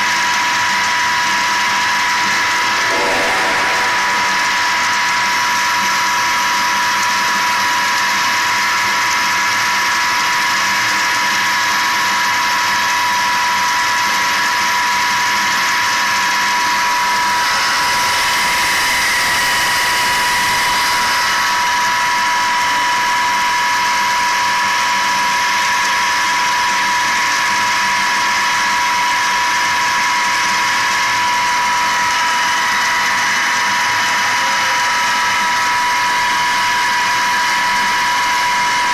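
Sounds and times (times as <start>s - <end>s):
pump running with high whine: 0.0s - 38.9s.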